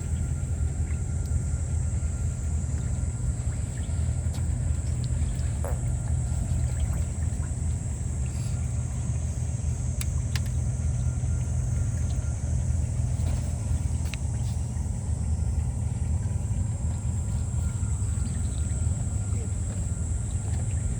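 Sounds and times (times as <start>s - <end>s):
boat engine running: 0.0s - 20.9s.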